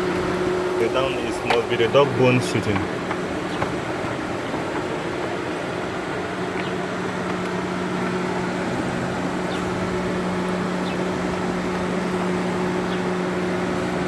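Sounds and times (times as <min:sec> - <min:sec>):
radiator cooling fan humming: 0:00.0 - 0:14.0.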